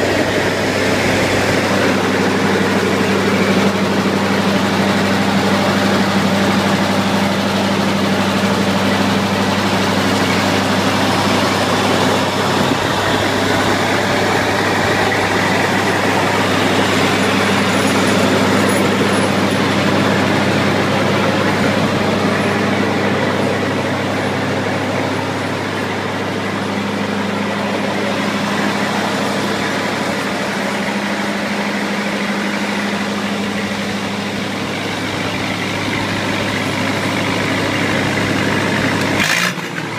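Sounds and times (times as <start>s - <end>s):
engine-driven welder humming: 0.0s - 39.9s.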